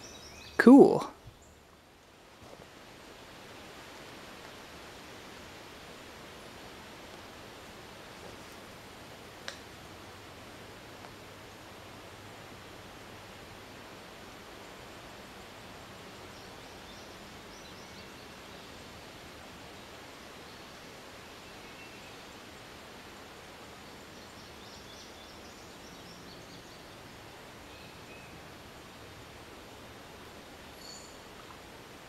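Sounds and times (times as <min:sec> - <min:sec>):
woodland ambience hiss: 0:00.0 - 0:32.0.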